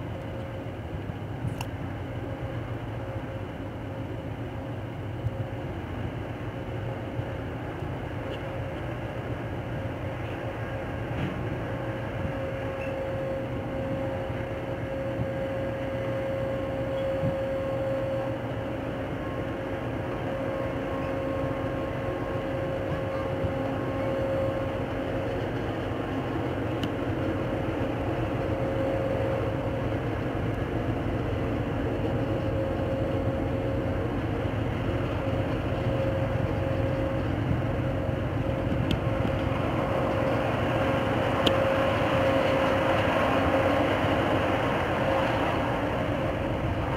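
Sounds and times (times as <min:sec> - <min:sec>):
boat engines droning: 0:00.0 - 0:46.9.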